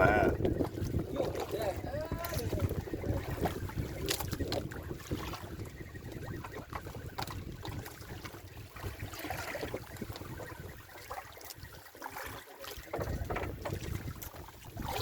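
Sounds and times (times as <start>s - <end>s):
water washing around boat: 0.0s - 15.0s
wind buffeting microphone: 0.0s - 15.0s.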